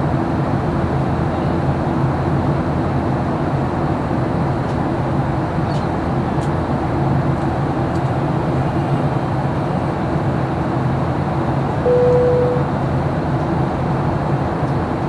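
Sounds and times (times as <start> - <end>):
airplane engines droning: 0.0 - 15.0.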